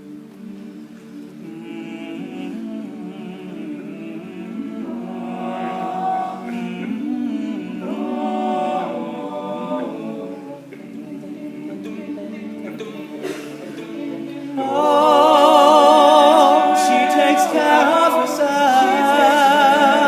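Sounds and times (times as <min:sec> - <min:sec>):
a cappella group singing harmony: 0:00.0 - 0:20.0.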